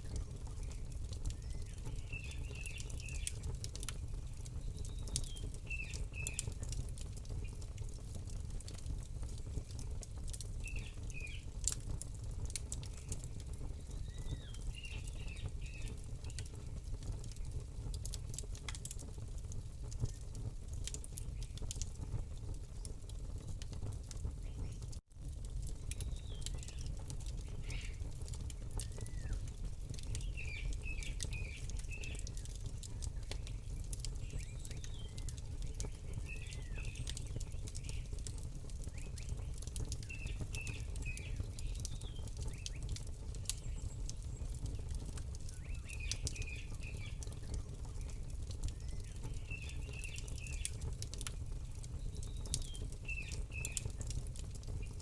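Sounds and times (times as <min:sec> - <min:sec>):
small birds chirping: 0:00.0 - 0:11.8, 0:12.4 - 0:18.6, 0:24.2 - 0:25.0, 0:25.8 - 0:55.0
campfire crackling and popping: 0:00.0 - 0:55.0.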